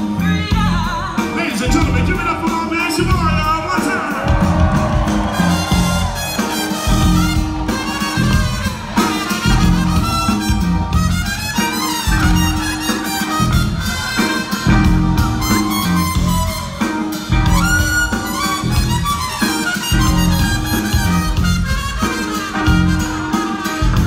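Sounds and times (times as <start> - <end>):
live funk band playing: 0.0 - 24.0
wind instrument lead melody: 0.0 - 24.0.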